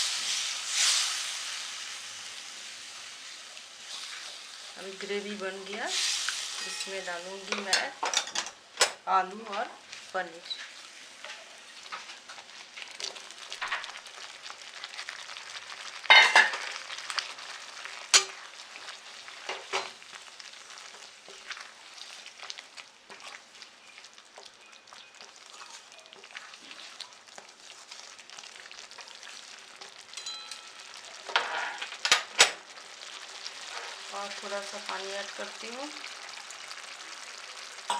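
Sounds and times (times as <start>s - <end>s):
gravy sizzling in a pan: 0.0s - 37.9s.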